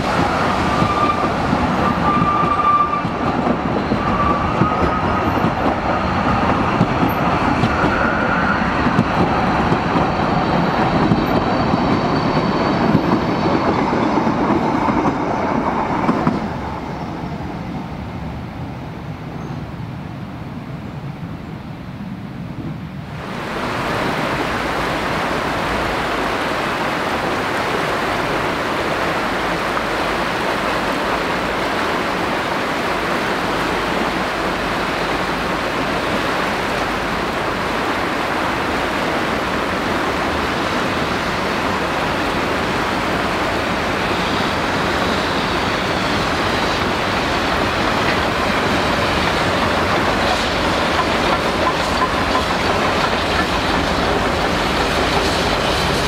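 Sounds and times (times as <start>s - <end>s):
steam train rushing noise: 0.0s - 20.1s, 22.6s - 56.0s.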